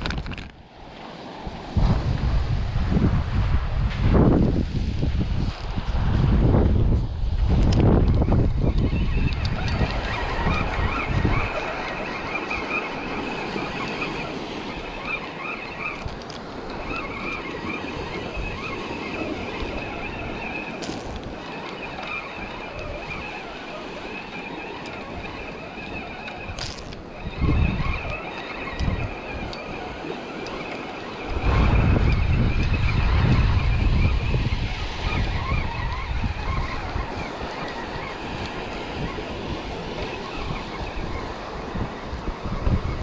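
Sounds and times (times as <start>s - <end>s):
surf washing on beach: 0.0s - 43.0s
wind buffeting microphone: 0.0s - 43.0s
fishing reel whirring: 7.6s - 43.0s.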